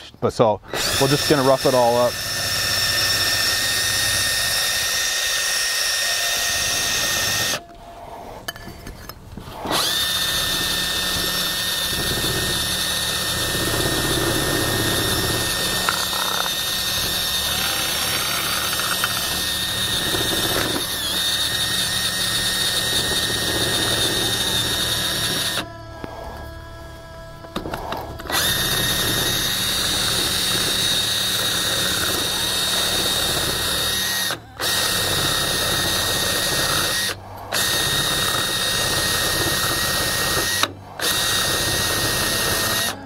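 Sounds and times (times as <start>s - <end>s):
drill motor whining: 0.0s - 43.0s.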